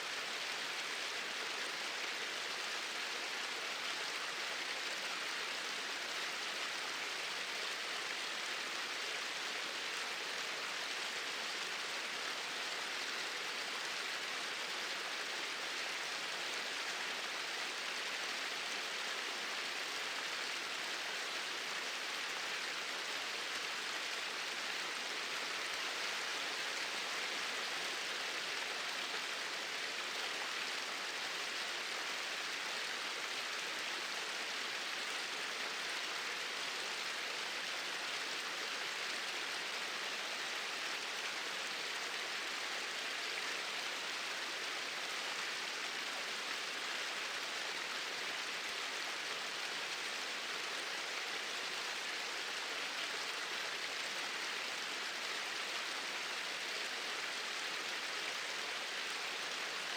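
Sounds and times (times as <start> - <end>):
small waterfall rushing: 0.0 - 59.9.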